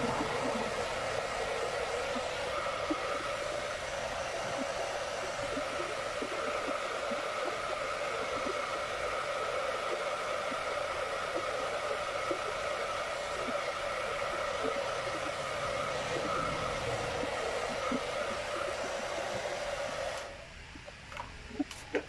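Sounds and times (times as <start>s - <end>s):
hair dryer running: 0.0s - 20.4s.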